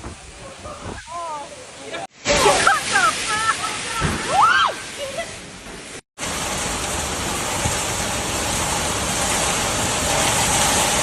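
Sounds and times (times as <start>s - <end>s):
heavy rain pouring: 0.0s - 11.0s
rushing storm noise: 0.0s - 11.0s.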